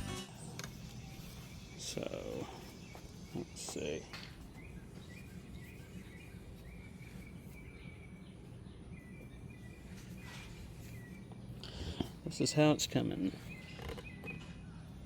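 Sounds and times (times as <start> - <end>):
bird chirping: 0.3 - 15.0
low steady rumble: 0.3 - 15.0.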